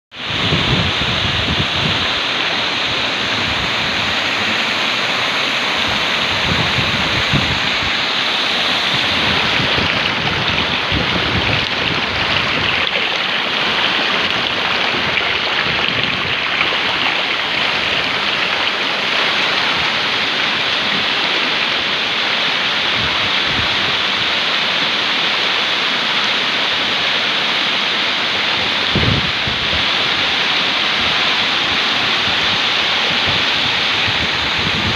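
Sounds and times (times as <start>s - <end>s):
water rushing over a weir: 0.1s - 34.9s.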